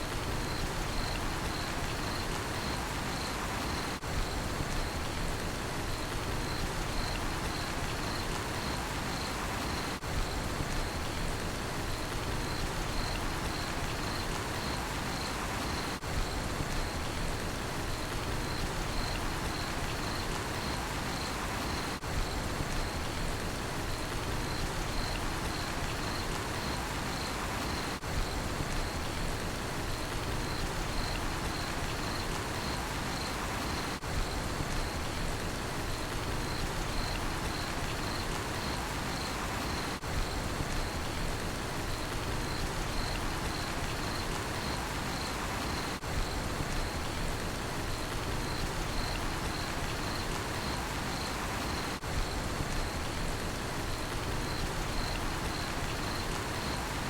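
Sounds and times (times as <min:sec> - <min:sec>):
rain hissing on a surface: 0:00.0 - 0:57.0
cricket chirping: 0:00.3 - 0:05.1, 0:05.9 - 0:11.2, 0:11.9 - 0:17.2, 0:18.0 - 0:23.2, 0:23.8 - 0:29.3, 0:29.9 - 0:35.2, 0:35.9 - 0:57.0.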